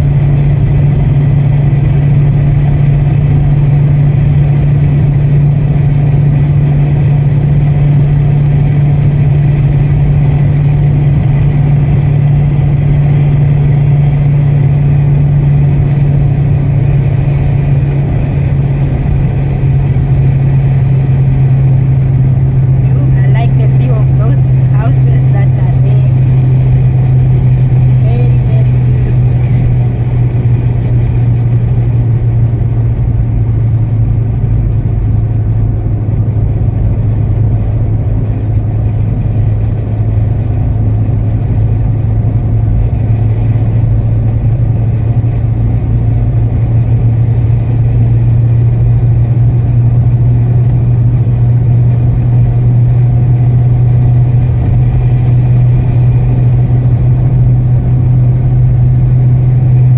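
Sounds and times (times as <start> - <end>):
car interior drone: 0.0 - 59.9.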